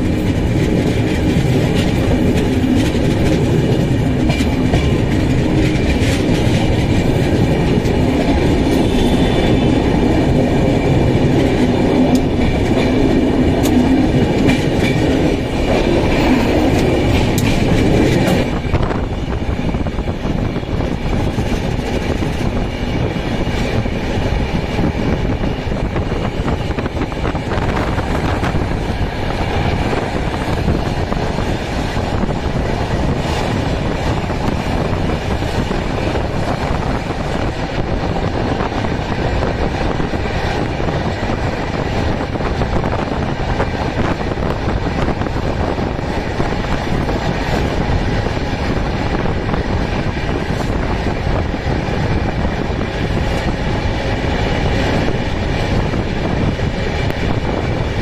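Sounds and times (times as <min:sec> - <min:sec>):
train rumbling and rattling: 0:00.0 - 0:58.0.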